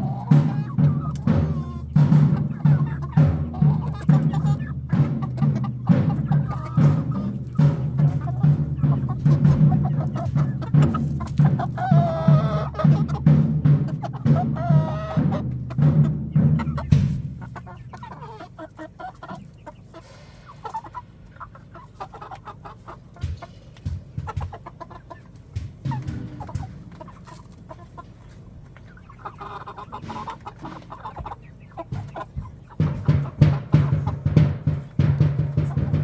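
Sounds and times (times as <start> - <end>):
background music with drumbeat: 0.0 - 19.0, 23.0 - 28.3, 29.9 - 36.0
young chickens clucking: 0.0 - 36.0.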